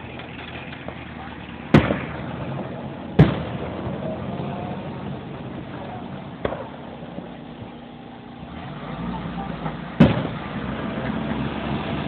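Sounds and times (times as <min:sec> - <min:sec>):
fireworks bursting: 0:00.0 - 0:12.0
steady background noise: 0:00.0 - 0:12.0.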